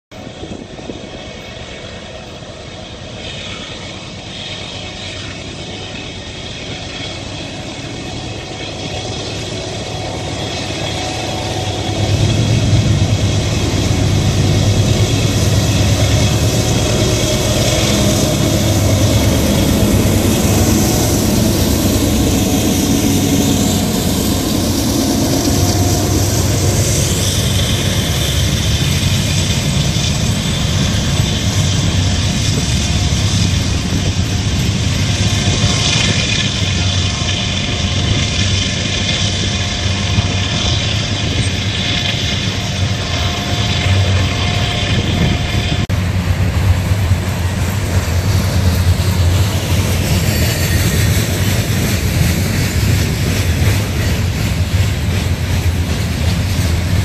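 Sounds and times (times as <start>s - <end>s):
diesel locomotives hauling train: 0.0s - 57.0s.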